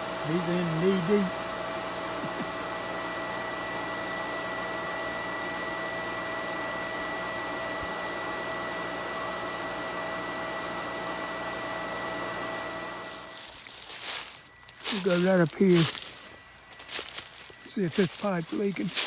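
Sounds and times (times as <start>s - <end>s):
pump running: 0.0s - 19.0s.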